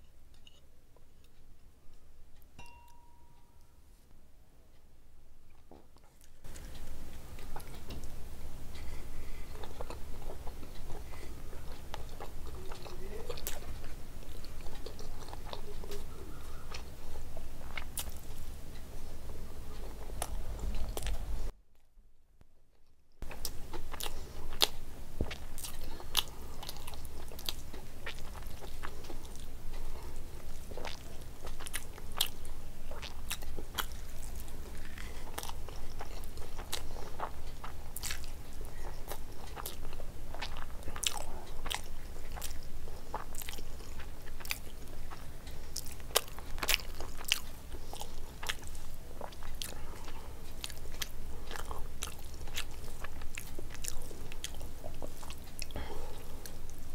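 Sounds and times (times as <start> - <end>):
low steady hum: 0.0 - 56.9
person chewing food: 5.5 - 21.5, 22.8 - 56.9.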